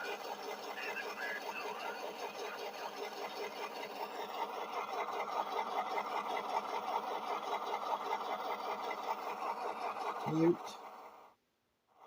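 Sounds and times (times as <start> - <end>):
diesel engine chugging from small speaker: 0.0 - 11.4.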